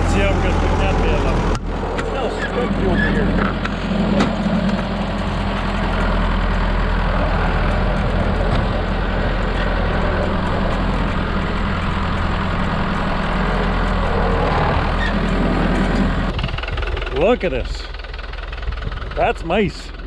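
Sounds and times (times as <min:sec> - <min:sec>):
small tractor engine running: 0:00.0 - 0:20.0.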